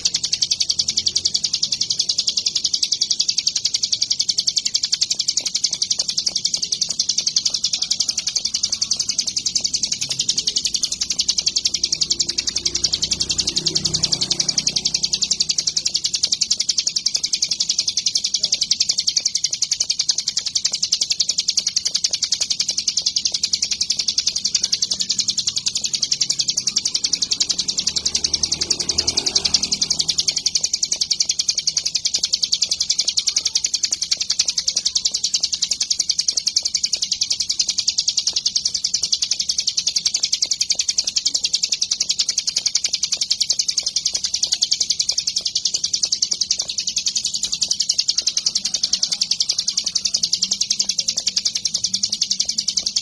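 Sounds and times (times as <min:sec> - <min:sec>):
bird singing chattering notes: 0:00.0 - 0:53.0.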